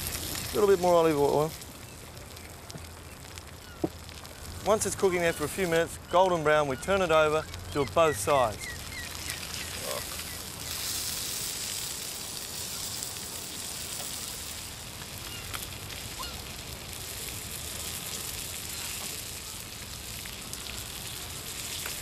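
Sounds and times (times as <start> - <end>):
faint small crackles: 0.0 - 22.0
fish sizzling on hot plate: 0.0 - 22.0.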